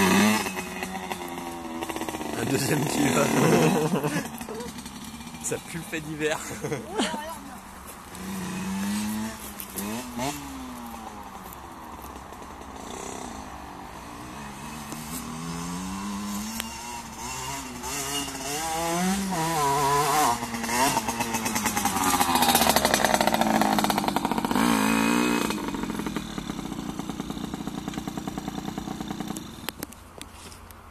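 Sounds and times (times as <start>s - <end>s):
motocross bike engine revving: 0.0s - 29.9s.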